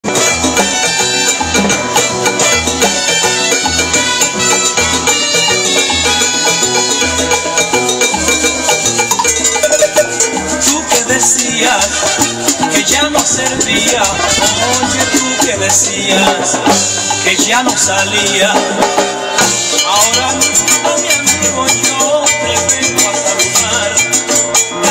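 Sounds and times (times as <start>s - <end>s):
salsa band playing: 0.0s - 24.9s.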